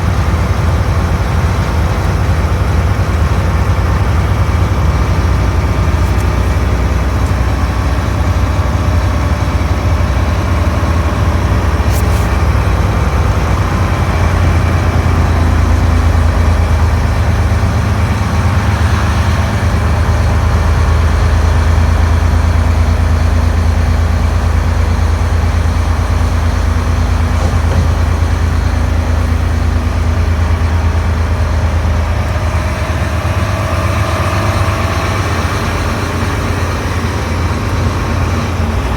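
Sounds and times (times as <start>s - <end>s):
truck diesel engine droning: 0.0s - 38.9s.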